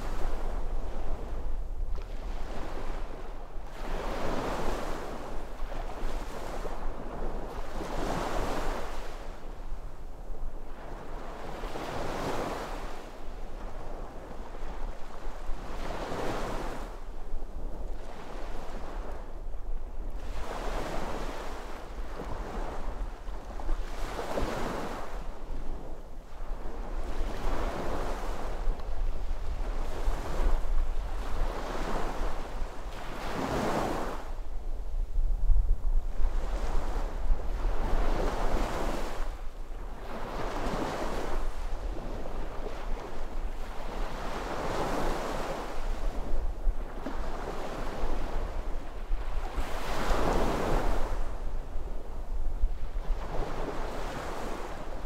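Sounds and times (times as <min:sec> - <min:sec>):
wind rumble on microphone: 0:00.0 - 0:55.0
sea waves breaking on shore: 0:02.0 - 0:09.6, 0:10.7 - 0:17.0, 0:20.1 - 0:25.8, 0:26.4 - 0:34.4, 0:36.2 - 0:55.0.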